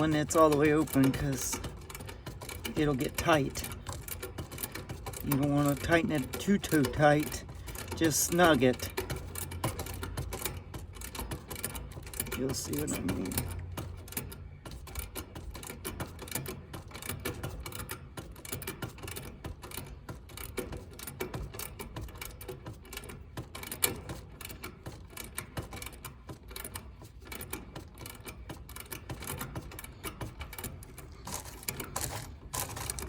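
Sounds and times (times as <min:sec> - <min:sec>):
wrench clicking: 0:00.0 - 0:33.0.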